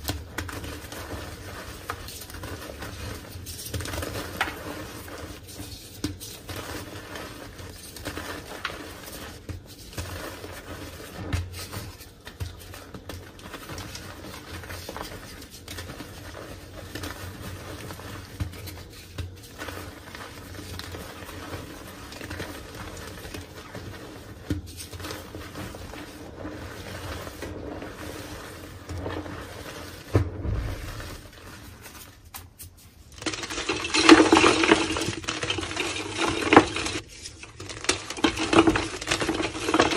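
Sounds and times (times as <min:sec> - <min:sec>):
crisp crunching of chalk blocks: 0:00.3 - 0:39.9.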